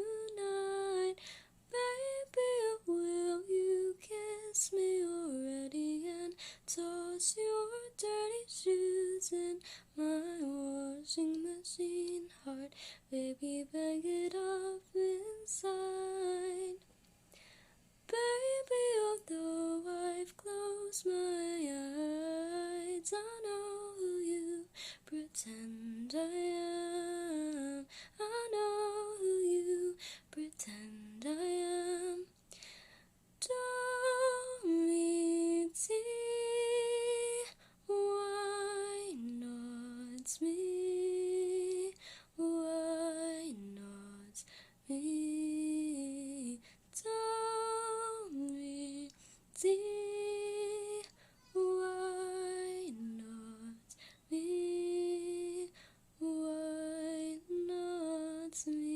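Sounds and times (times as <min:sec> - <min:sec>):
woman singing alone: 0:00.0 - 0:16.8, 0:18.1 - 0:32.3, 0:33.4 - 0:58.9.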